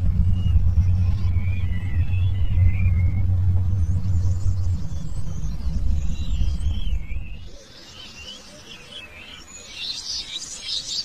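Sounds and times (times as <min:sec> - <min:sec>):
birds chirping and warbling: 0:00.0 - 0:11.0.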